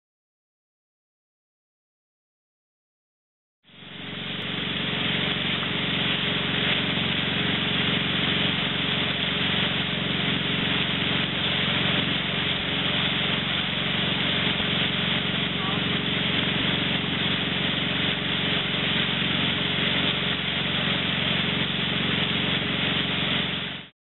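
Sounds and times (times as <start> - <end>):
boat engine humming: 3.7 - 23.9
water rushing in wake: 3.7 - 23.9
wind: 3.7 - 23.9.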